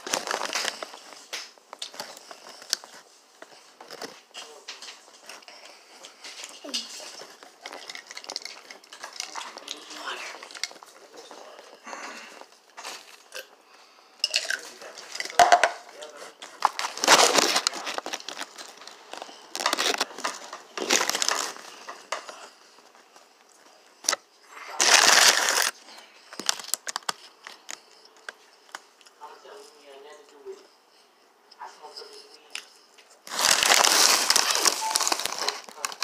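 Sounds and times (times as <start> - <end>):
small crackles: 0.0 - 13.4, 16.4 - 29.7, 32.1 - 36.0
crunching food close-up: 0.0 - 13.5, 14.4 - 22.7, 23.5 - 29.2, 32.5 - 36.0.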